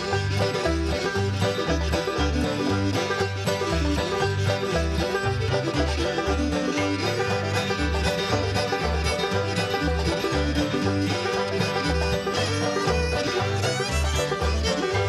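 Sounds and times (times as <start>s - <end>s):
banjo: 0.0s - 15.0s
fiddle: 0.0s - 15.0s
guitar: 0.0s - 15.0s.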